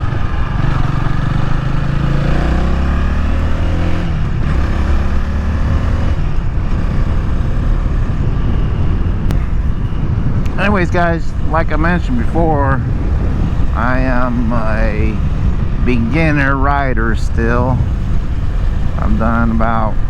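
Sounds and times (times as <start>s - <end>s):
motorcycle engine running: 0.0s - 20.0s
road and wind noise: 0.0s - 20.0s.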